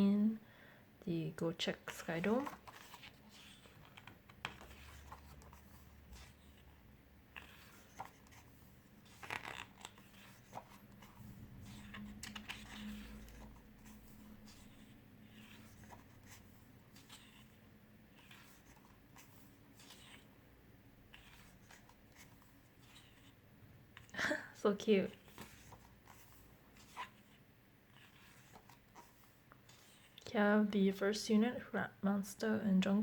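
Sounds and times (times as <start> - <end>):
book pages rustling: 1.8 - 20.4, 21.0 - 30.3.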